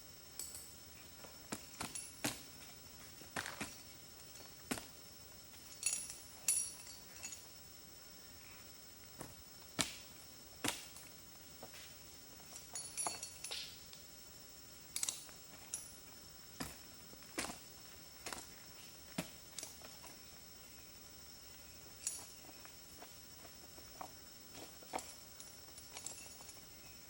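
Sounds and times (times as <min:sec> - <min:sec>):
faint steady background noise: 0:00.0 - 0:27.0.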